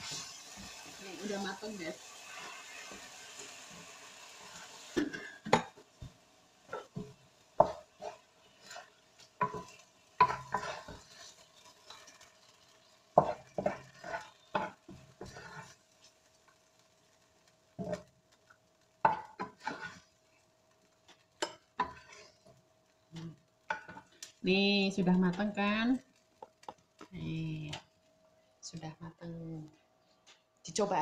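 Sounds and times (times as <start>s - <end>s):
spatula scraping and knocking wok: 0.0s - 24.3s, 26.3s - 27.0s
steady hiss over wok: 0.0s - 29.8s.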